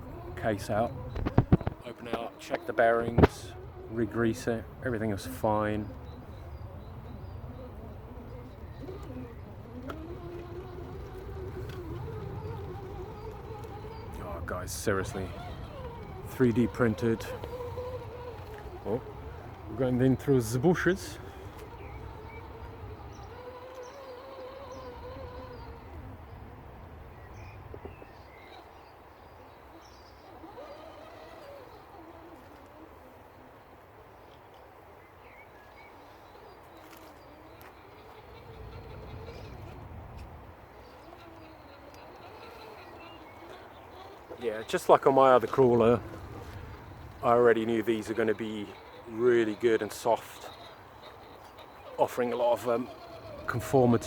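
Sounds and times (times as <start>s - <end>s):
birds chirping: 0.0s - 54.0s
electric motor and gears whining: 0.0s - 54.0s.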